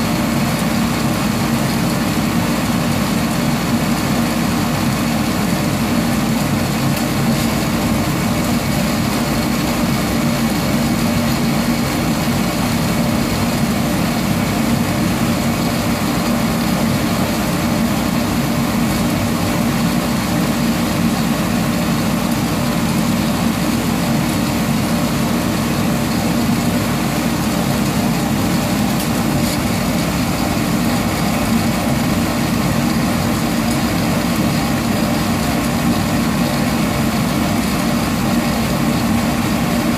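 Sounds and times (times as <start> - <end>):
roaster blower hum and whoosh: 0.0 - 39.9.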